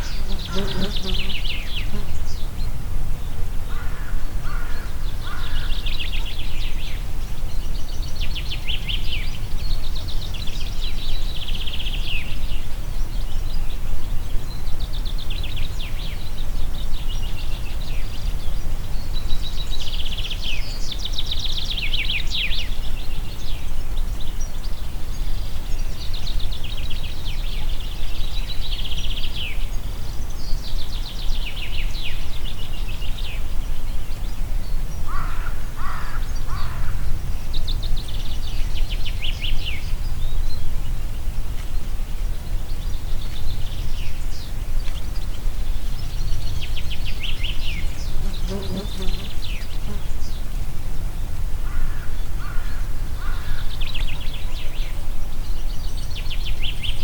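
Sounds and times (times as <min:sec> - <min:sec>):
songbirds singing trills: 0:00.0 - 0:57.0.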